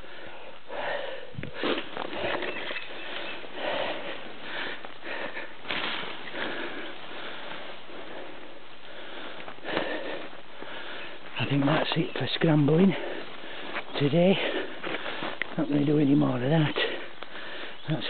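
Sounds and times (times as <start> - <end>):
person breathing heavily: 0.0 - 11.6, 12.6 - 15.6, 16.6 - 17.9.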